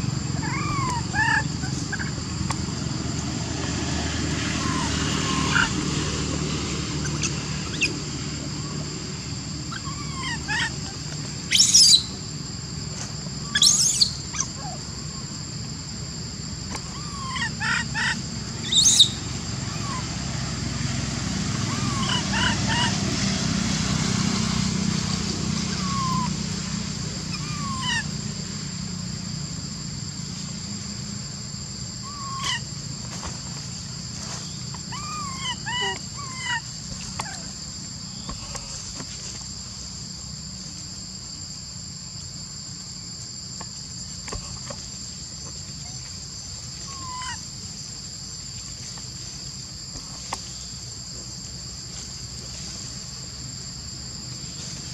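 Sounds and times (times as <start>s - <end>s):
insects droning: 0.0s - 54.9s.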